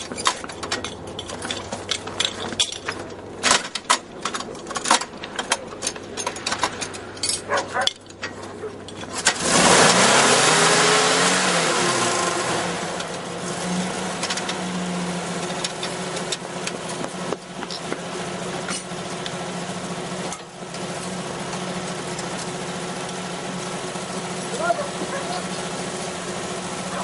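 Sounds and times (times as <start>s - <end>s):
fire pump engine running: 0.0s - 27.0s.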